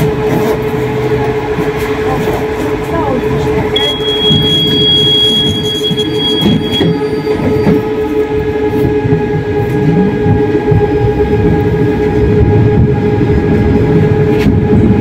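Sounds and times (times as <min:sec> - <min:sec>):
tram electrical whine: 0:00.0 - 0:15.0
wheels rumbling on rails: 0:00.0 - 0:15.0.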